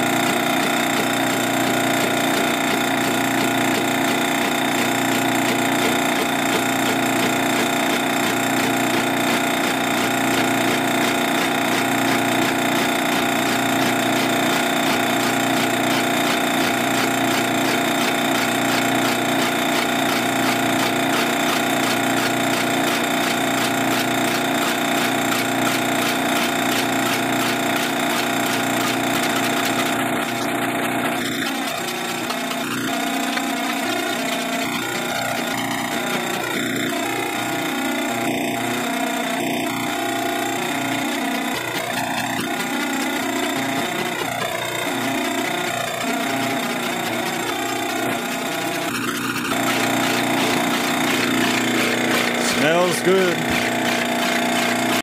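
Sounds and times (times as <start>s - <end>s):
lathe motor and gear whine: 0.0s - 55.0s.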